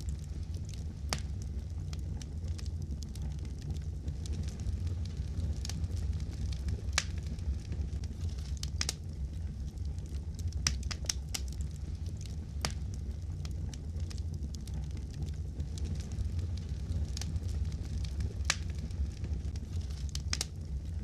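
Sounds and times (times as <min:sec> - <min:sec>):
low rumble of burning: 0:00.0 - 0:21.0
wood fire pops and snaps: 0:00.0 - 0:21.0.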